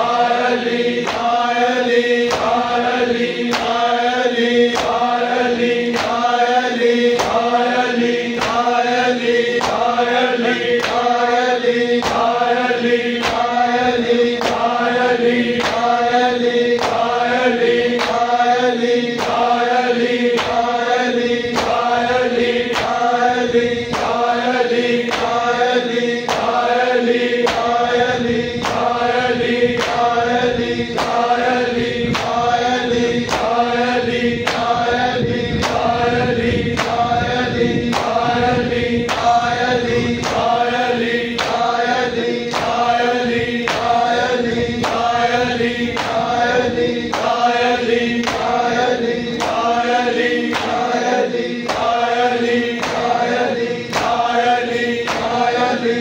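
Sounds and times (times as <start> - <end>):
voices chanting: 0.0 - 56.0.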